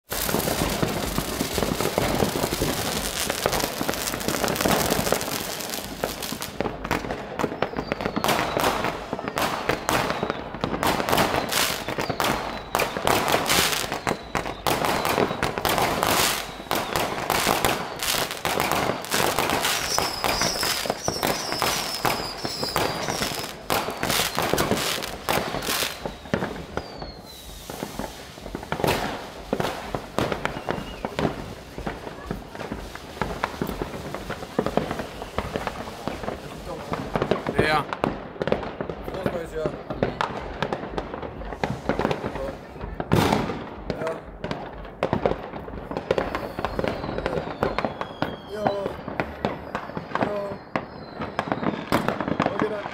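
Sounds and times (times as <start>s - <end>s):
high firework whistles: 0.0s - 38.0s, 39.0s - 44.2s, 45.9s - 52.9s
firecracker bangs and crackling: 0.0s - 52.9s.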